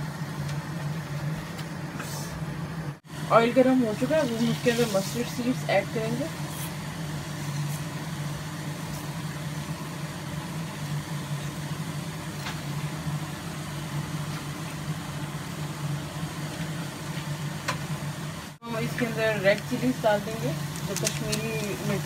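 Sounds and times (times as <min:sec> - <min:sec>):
seeds hissing in hot oil: 0:03.1 - 0:22.0.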